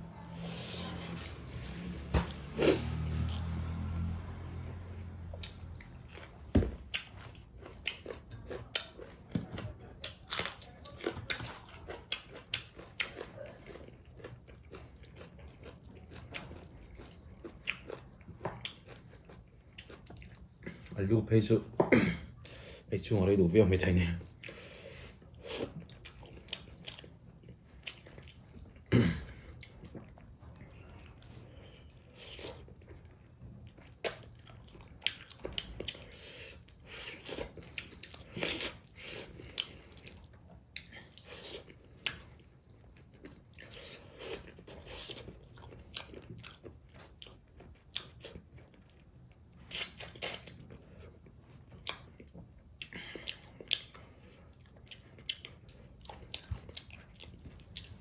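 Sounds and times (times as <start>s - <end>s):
person chewing and crunching food: 0.0s - 21.0s, 23.9s - 58.0s.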